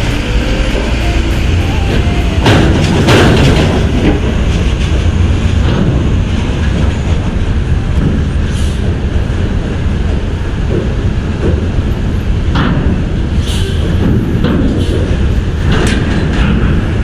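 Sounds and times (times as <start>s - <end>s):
bus engine and tyres rumbling on metal: 0.0s - 17.0s
ramp plates clanking: 0.0s - 17.0s.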